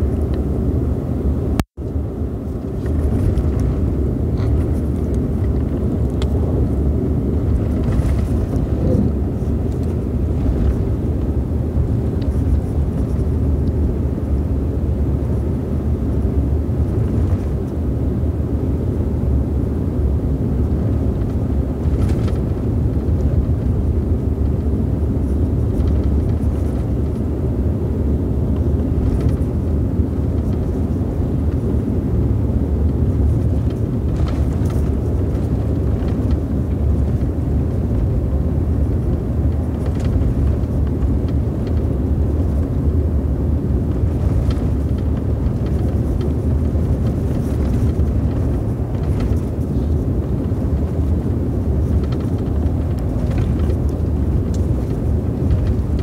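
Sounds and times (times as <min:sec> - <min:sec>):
vehicle road and engine rumble: 0:00.0 - 0:56.0.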